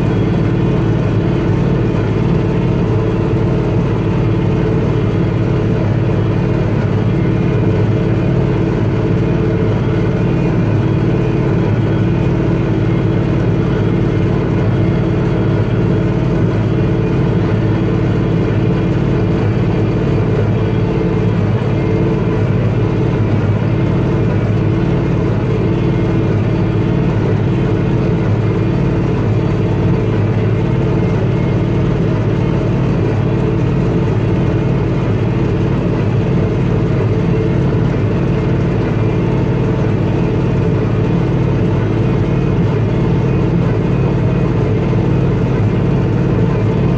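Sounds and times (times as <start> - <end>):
tractor engine and baler drone: 0.0 - 46.9.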